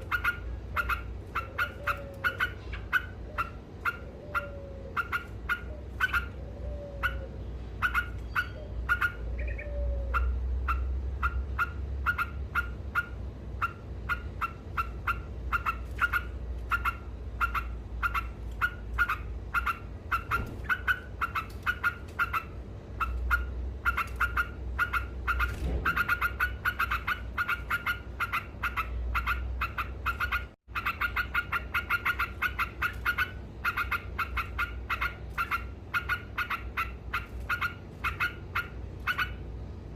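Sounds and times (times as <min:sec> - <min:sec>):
bird rapid chattering: 0:00.0 - 0:06.4, 0:07.0 - 0:39.4
low steady rumble: 0:00.0 - 0:39.9.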